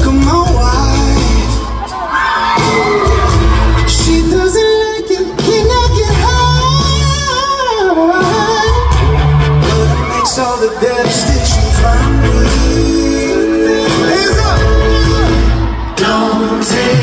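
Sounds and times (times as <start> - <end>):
live pop band playing: 0.0 - 17.0
man singing: 0.0 - 17.0.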